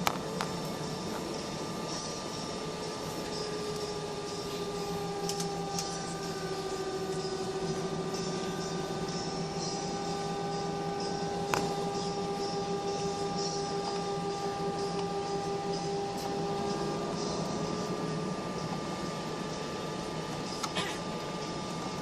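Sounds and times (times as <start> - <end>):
aircraft engine drone in cabin: 0.0 - 22.0.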